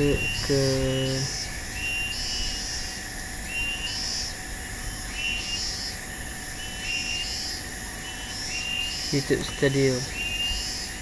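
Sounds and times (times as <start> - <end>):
steady hum and hiss: 0.0 - 11.0.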